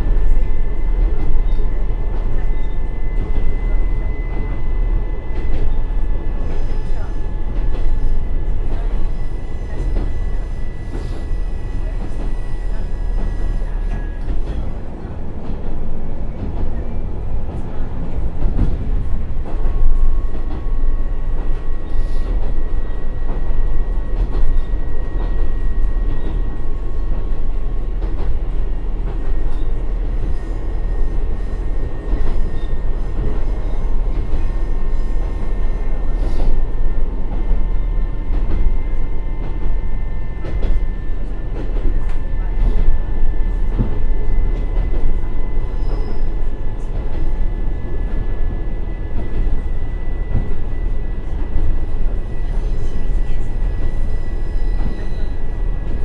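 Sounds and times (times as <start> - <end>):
railcar engine rumble: 0.0 - 56.0.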